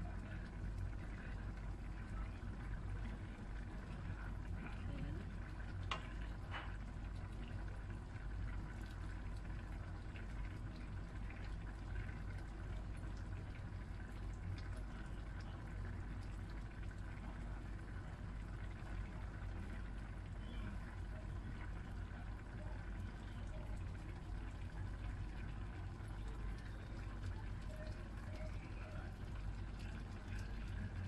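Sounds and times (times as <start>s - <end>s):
broth bubbling in a pan: 0.0s - 31.0s.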